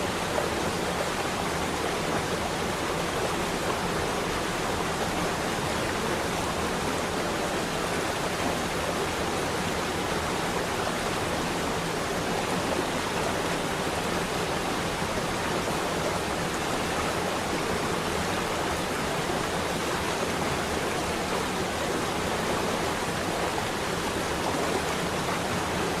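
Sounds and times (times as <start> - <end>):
waterfall cascading: 0.0 - 26.0.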